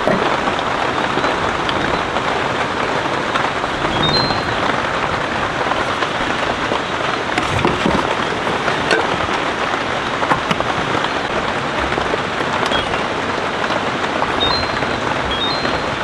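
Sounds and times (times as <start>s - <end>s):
close raindrops striking: 0.0s - 16.0s
rain falling steadily: 0.0s - 16.0s.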